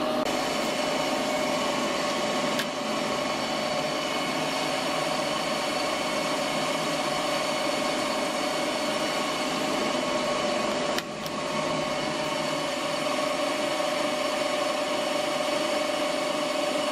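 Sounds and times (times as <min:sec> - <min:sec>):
lathe whining: 0:00.0 - 0:16.9.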